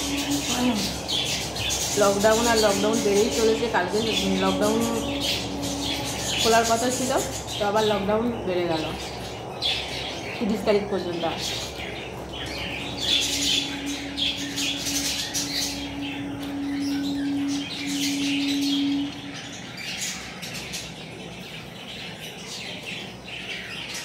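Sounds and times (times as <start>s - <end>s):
small birds chirping: 0.0s - 24.0s
steady low hum: 0.0s - 24.0s.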